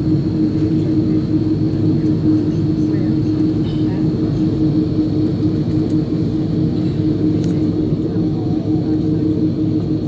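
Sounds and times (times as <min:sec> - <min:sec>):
jet engines rumbling: 0:00.0 - 0:10.0
steady cabin drone: 0:00.0 - 0:10.0.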